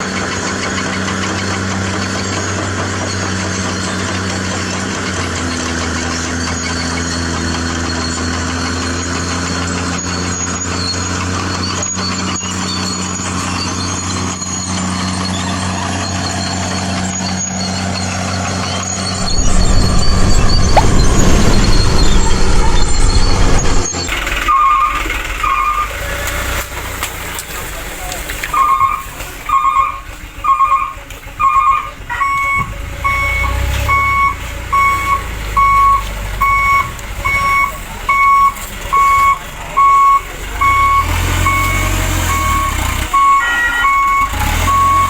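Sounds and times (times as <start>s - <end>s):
model truck engine running: 0.0s - 45.0s.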